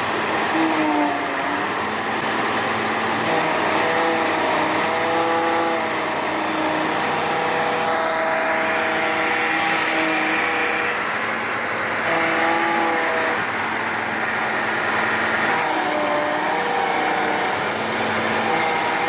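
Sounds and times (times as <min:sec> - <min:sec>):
heavy truck engine running: 0:00.0 - 0:19.0.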